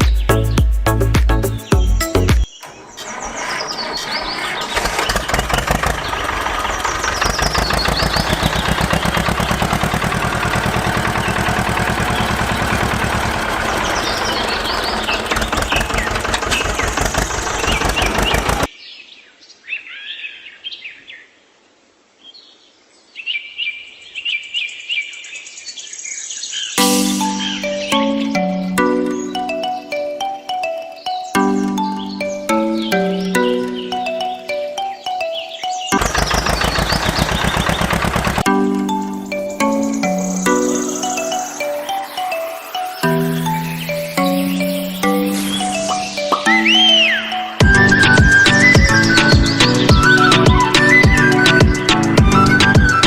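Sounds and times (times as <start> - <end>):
birds chirping: 0.0 - 21.4, 22.3 - 53.0.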